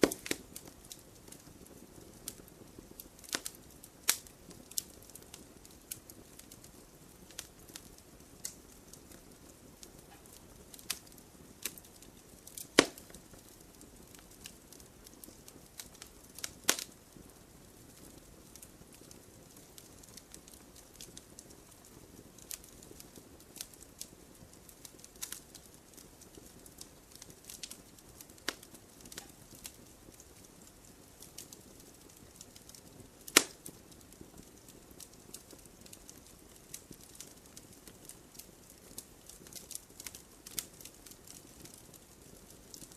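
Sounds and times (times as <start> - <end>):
campfire crackling: 0.0 - 42.9
sharp fire pops: 0.0 - 42.9.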